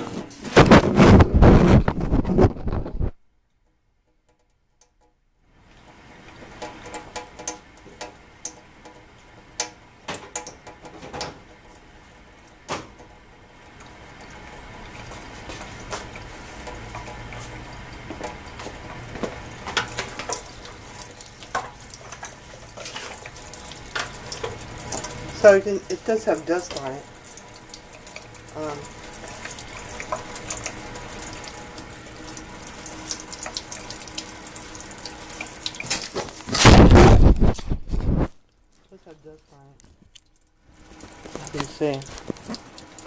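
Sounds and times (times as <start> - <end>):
tap water running into sink: 5.7 - 37.5, 40.1 - 43.0.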